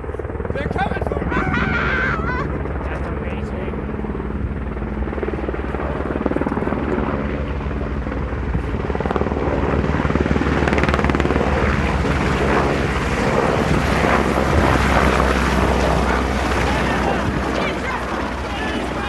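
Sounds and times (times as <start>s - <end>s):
helicopter rotor blades chopping: 0.0s - 19.0s.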